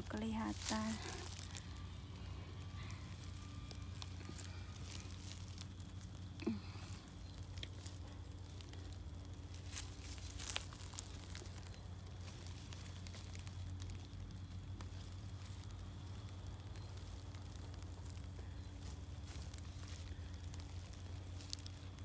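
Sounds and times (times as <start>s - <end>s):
grass and leaves rustling: 0.0s - 22.0s
low hum: 0.0s - 22.0s
sharp crackles: 0.0s - 22.0s.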